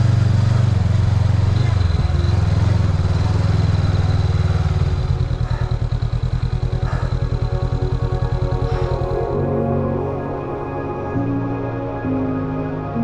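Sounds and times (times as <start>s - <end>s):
motorbike engine running: 0.0s - 11.1s.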